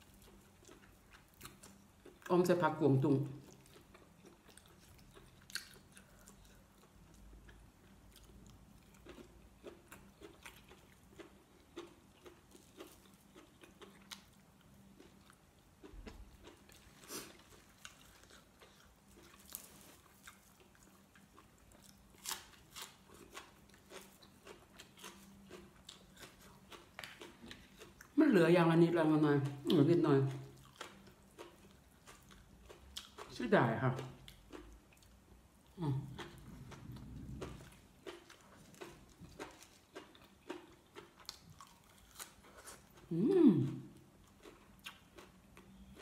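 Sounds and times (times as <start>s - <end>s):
chewing sticky food: 0.0s - 46.0s
faint steady hum: 0.0s - 46.0s.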